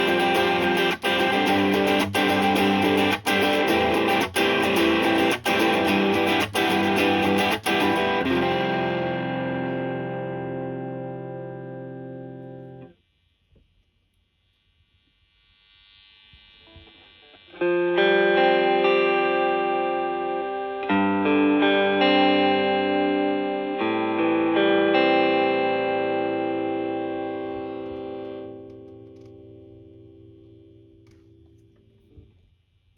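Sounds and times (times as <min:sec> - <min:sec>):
overdriven electric guitar chords: 0:00.0 - 0:12.9, 0:16.6 - 0:32.2.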